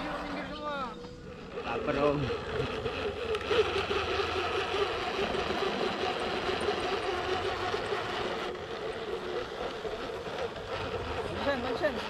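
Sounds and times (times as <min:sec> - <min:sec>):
electric motor whirring drone: 0:00.0 - 0:12.0.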